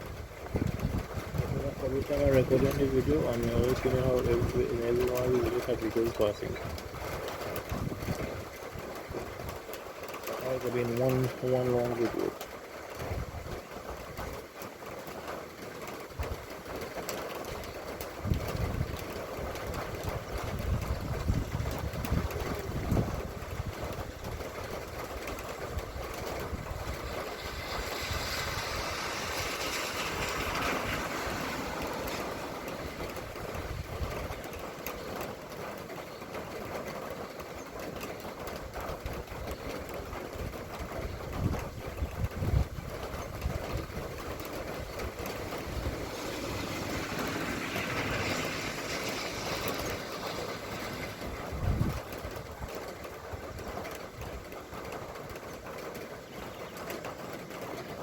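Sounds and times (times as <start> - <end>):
tyres hissing on wet road: 0.0 - 6.6, 10.1 - 24.6, 25.3 - 37.6, 43.8 - 58.0
rain falling: 0.0 - 58.0.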